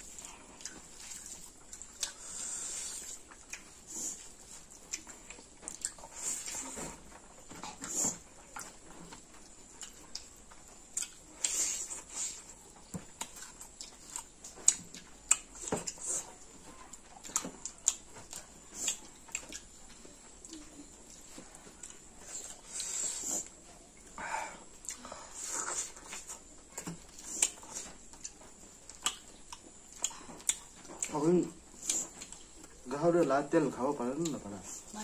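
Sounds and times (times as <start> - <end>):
people chewing food: 0.0 - 35.0.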